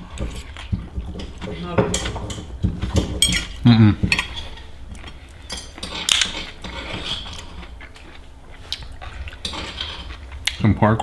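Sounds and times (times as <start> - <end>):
cutlery clinking on plate: 0.0 - 10.7.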